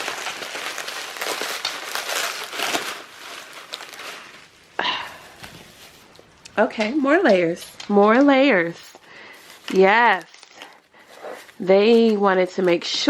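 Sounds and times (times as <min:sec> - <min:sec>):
packing wrap crinkling: 0:00.0 - 0:13.0.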